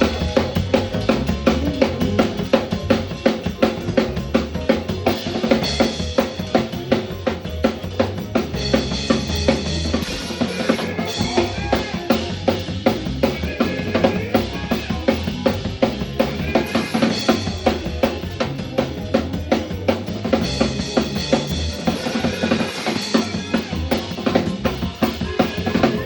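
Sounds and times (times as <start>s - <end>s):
drum kit beat: 0.0s - 26.0s
live band playing instrumental: 0.0s - 26.0s.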